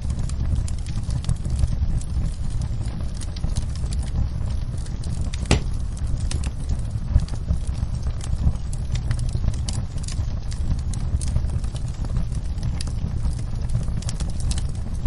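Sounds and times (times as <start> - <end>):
low rumble of burning: 0.0 - 15.0
wood fire crackling: 0.0 - 15.0.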